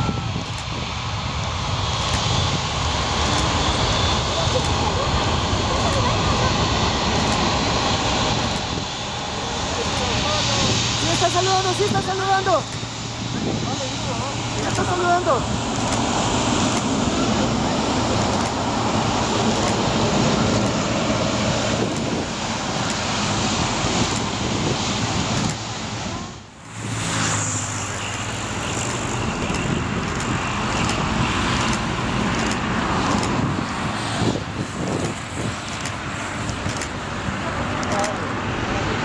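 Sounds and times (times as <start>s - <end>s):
jet engines rushing: 0.0s - 39.0s.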